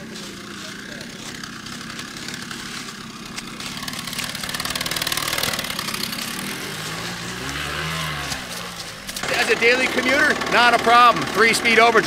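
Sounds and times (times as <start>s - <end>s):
two-stroke motorbike engine: 0.0s - 12.0s.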